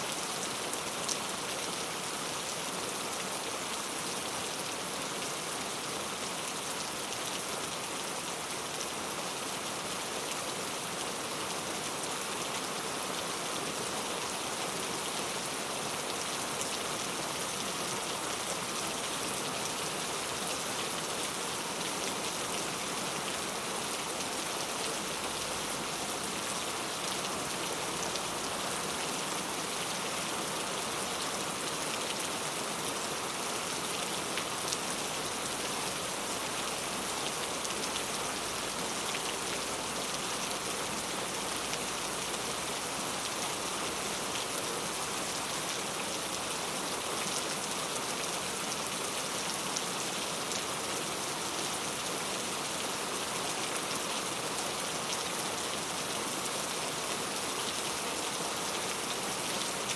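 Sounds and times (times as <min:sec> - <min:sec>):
heavy rain on street: 0:00.0 - 0:59.9.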